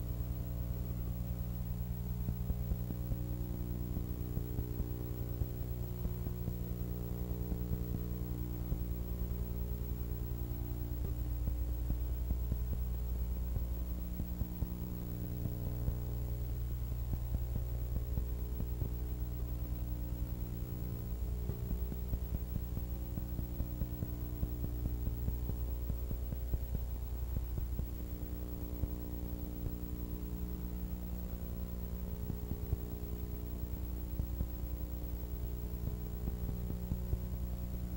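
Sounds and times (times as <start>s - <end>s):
electrical mains hum: 0.0s - 37.9s
faint crackle: 0.0s - 37.9s.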